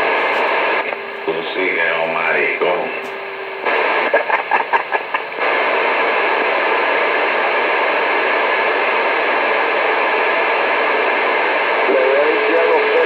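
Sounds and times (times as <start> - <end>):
broken radio signal bursts: 0.0 - 13.0
radio static hiss: 0.0 - 13.0.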